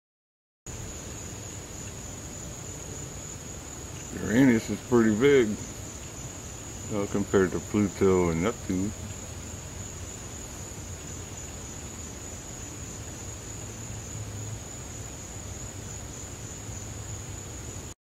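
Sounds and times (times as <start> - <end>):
crickets trilling: 0.7 - 18.0.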